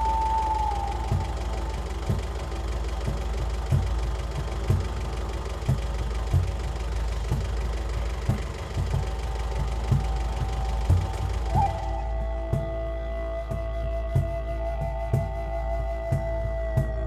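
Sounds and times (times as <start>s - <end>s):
droning bass music: 0.0s - 17.0s.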